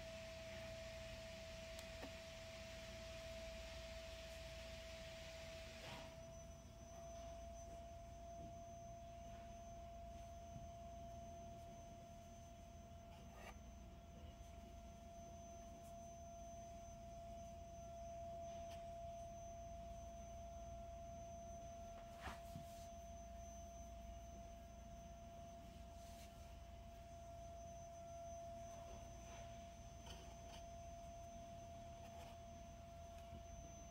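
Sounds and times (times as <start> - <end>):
faint high-pitched tone: 0.0 - 33.9.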